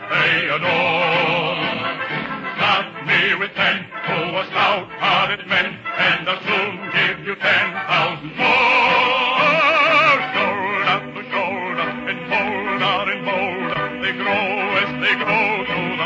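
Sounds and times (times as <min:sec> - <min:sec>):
baritone singing: 0:00.0 - 0:16.0
orchestra playing: 0:00.1 - 0:16.0.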